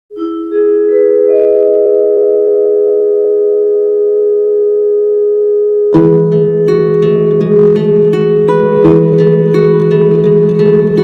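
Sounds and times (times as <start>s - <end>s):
sustained chord of steady tones: 0.1s - 11.0s.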